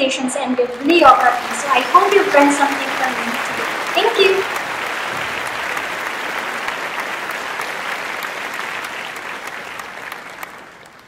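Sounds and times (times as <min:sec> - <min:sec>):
crowd applauding: 0:00.4 - 0:11.0.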